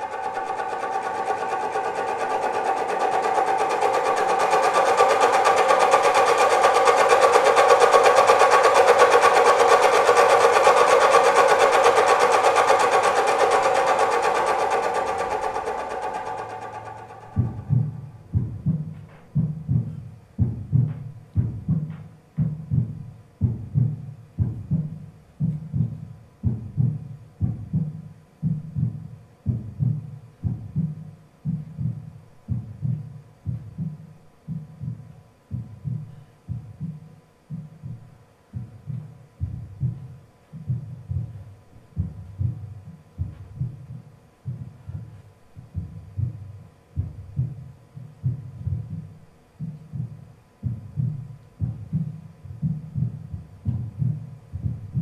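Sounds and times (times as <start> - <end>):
low thudding pulse: 0.0 - 55.0.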